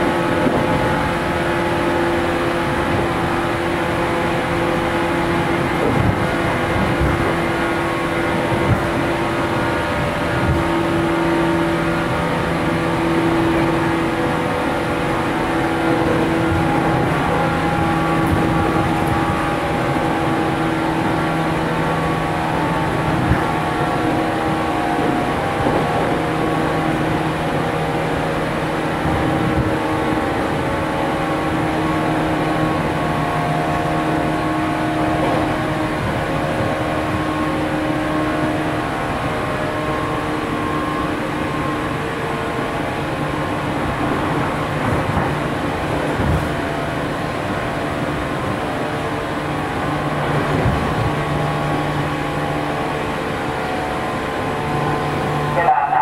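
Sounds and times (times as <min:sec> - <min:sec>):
electric train traction motors humming: 0:00.0 - 0:56.0
wheels rumbling on rails: 0:00.0 - 0:56.0.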